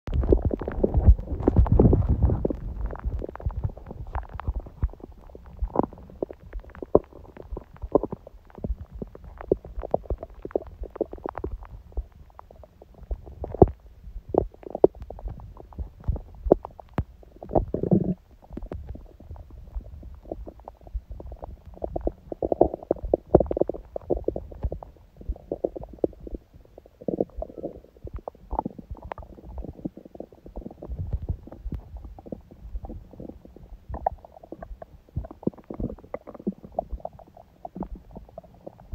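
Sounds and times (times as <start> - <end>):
stomach gurgling: 0.1 - 38.9.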